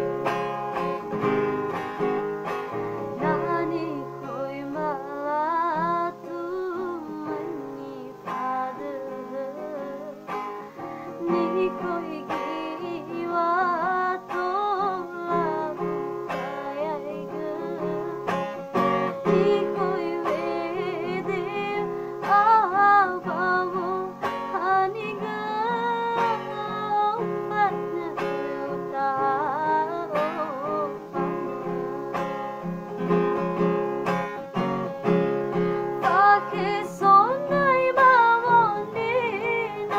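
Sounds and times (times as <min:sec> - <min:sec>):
acoustic guitar: 0:00.0 - 0:39.9
woman singing with vibrato: 0:03.0 - 0:32.6, 0:35.6 - 0:39.9.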